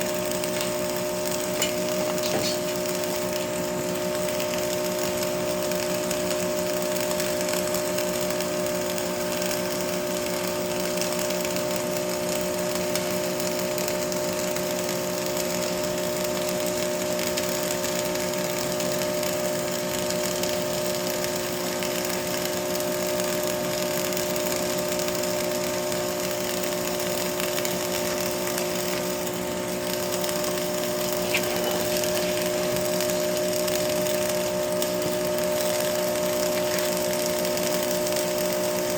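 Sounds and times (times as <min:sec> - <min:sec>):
electrical hum: 0:00.0 - 0:38.9
welding arc crackling: 0:00.0 - 0:38.9.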